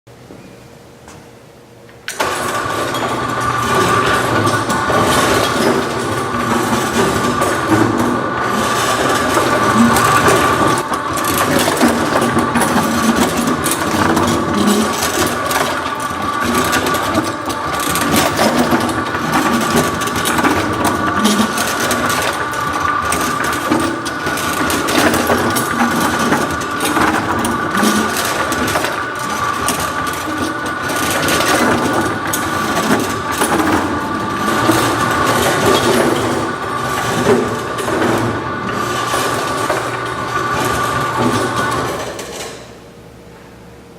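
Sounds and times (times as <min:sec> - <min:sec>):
mechanism clicking and rattling: 0:02.1 - 0:42.7.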